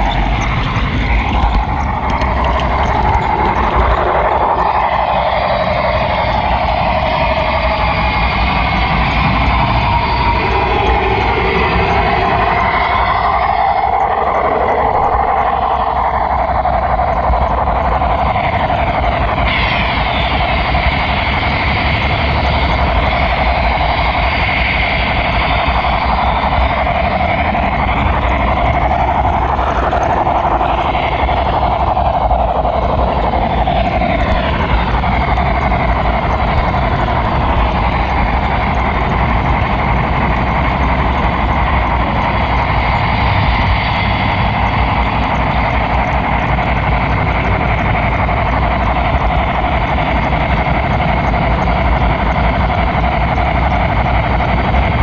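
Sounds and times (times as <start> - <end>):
whining tones: 0.0 - 55.0.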